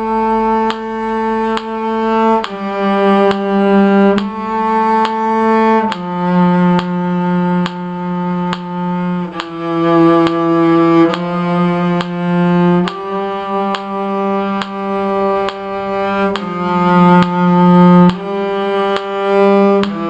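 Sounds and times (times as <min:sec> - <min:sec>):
bowed string instrument melody: 0:00.0 - 0:20.0.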